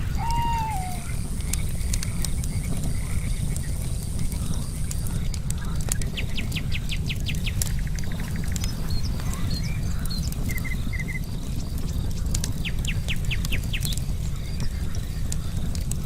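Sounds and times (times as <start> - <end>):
birds singing: 0.0 - 15.9
campfire crackling and popping: 0.0 - 16.0.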